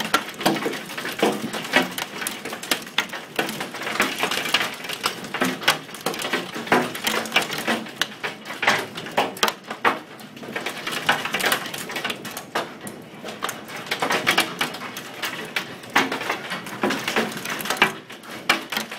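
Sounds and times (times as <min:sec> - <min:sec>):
hail pelting hard surfaces: 0:00.0 - 0:18.9.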